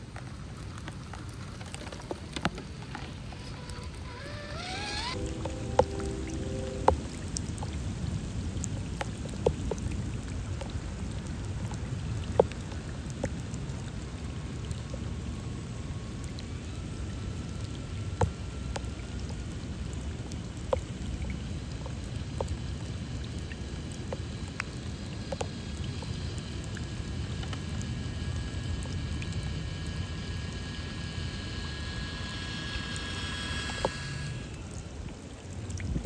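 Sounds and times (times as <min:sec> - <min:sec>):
steady rain on pavement: 0:00.0 - 0:35.8.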